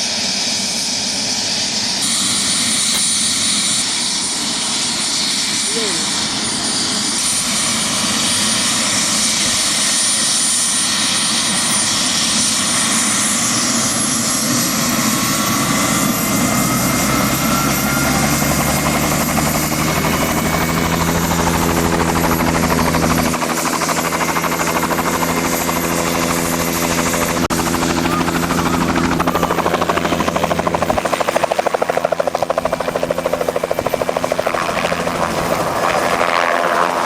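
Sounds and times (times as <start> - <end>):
helicopter rotor beat: 0.0 - 37.0
helicopter turbine whine: 0.0 - 37.0.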